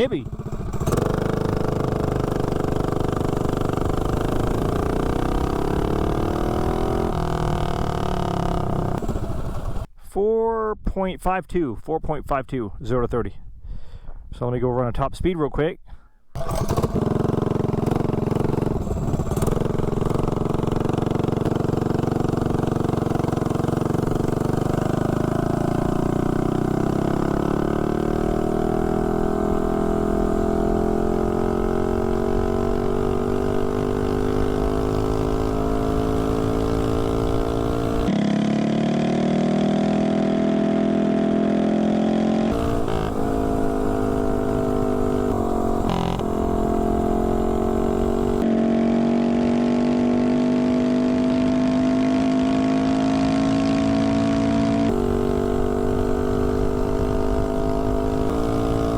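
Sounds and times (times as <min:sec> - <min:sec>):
mini bike engine at full throttle: 0:00.0 - 0:09.9, 0:16.4 - 0:58.9.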